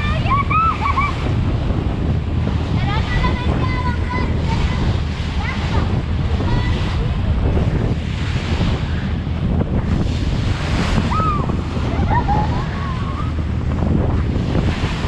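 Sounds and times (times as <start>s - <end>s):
ferry wake rushing: 0.0s - 15.0s
wind buffeting microphone: 0.0s - 15.0s.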